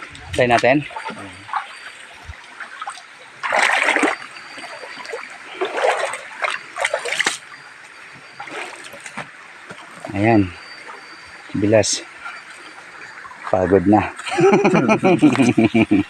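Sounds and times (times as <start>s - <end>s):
water trickling: 0.0s - 16.0s
water splashing in stream: 0.4s - 14.6s.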